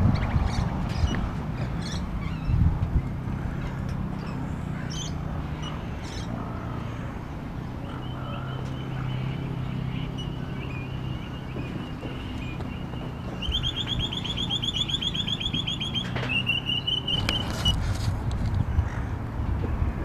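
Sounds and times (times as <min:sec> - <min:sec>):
birds chirping: 0:00.0 - 0:17.8.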